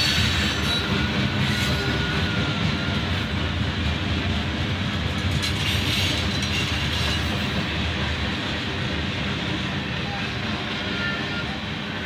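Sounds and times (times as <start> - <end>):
freight train cars rolling: 0.0 - 12.0
steel wheels on rails: 0.0 - 12.0.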